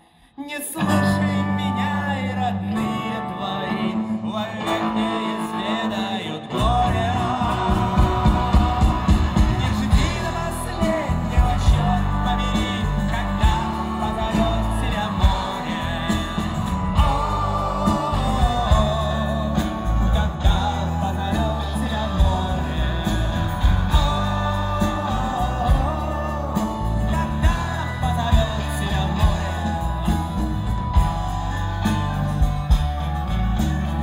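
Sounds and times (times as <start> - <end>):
live folk-rock band playing: 0.8 - 34.0
wavering melodic lead line: 0.8 - 34.0.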